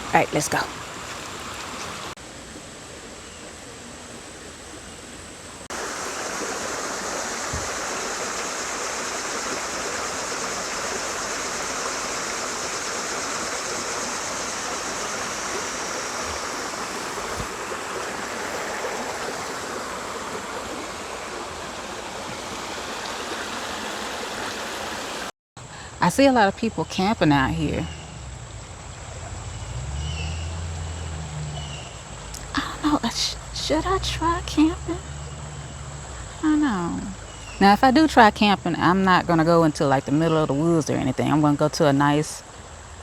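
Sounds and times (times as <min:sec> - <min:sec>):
creek water rushing: 0:00.0 - 0:25.3, 0:27.4 - 0:43.0.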